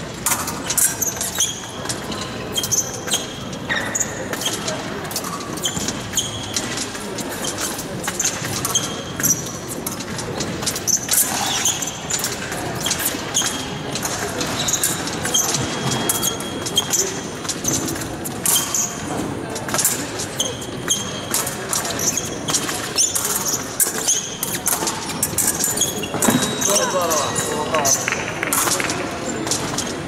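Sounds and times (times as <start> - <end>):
shoes stamping and squeaking: 0.3 - 30.0.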